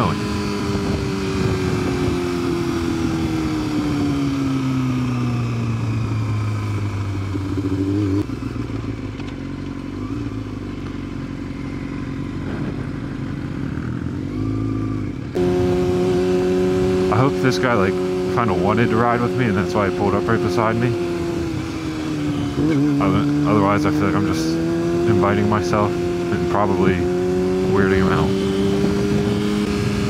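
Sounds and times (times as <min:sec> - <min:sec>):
motorcycle engine: 0:00.0 - 0:30.0.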